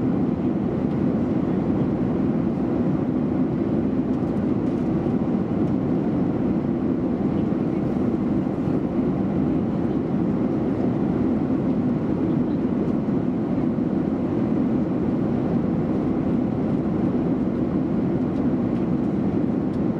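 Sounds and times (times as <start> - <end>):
airliner cabin engine rush: 0.0 - 19.9.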